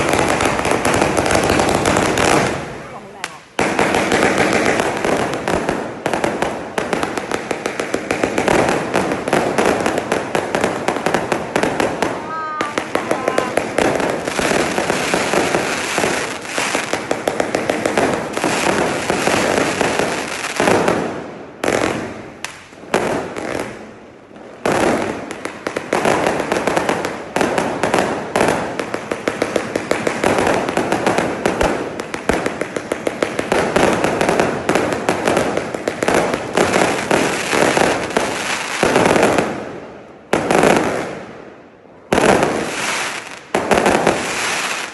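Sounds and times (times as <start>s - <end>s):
firework bangs and crackle: 0.0s - 44.9s.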